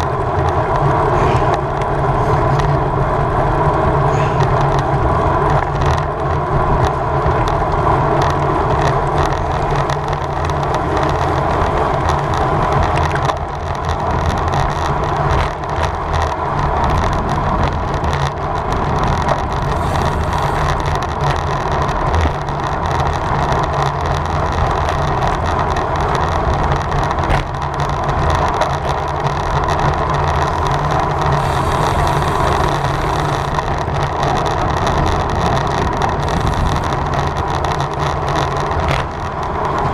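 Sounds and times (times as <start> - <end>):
bicycle tyre road noise: 0.0 - 39.9
wind rush over microphone: 0.0 - 39.9.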